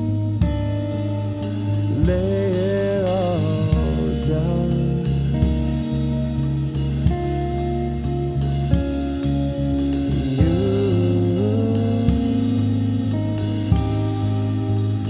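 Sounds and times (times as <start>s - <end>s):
instrumental music with guitar and drums: 0.0s - 15.0s.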